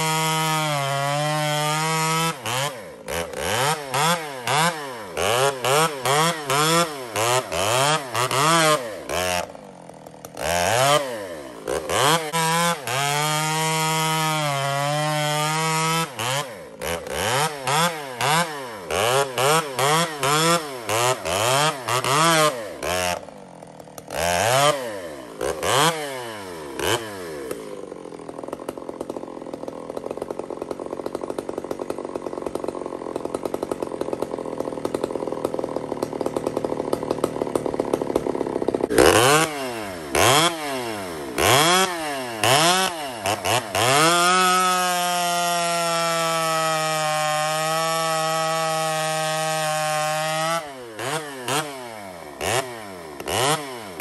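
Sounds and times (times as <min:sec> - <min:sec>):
chainsaw revving and cutting log: 0:00.0 - 0:54.0.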